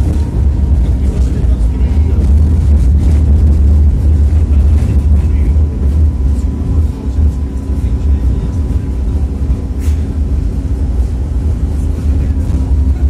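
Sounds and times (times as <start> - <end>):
faint steady whine: 0.0 - 13.0
tram rumbling: 0.0 - 13.0.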